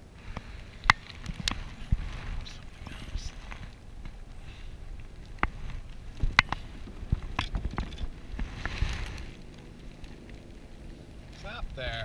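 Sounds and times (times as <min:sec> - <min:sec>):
water rumbling: 0:00.0 - 0:12.0
wind: 0:00.0 - 0:12.0.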